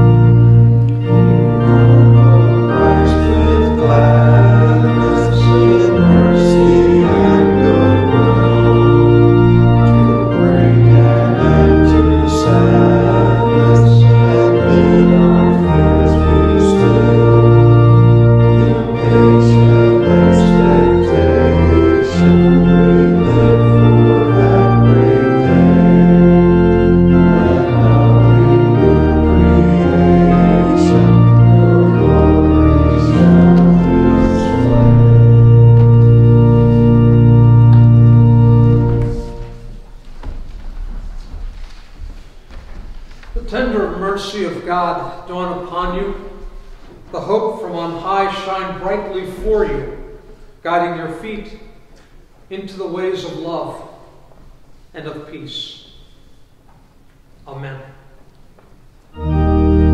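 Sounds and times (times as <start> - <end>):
church organ chords: 0.0 - 41.8, 43.3 - 58.1, 58.8 - 59.9.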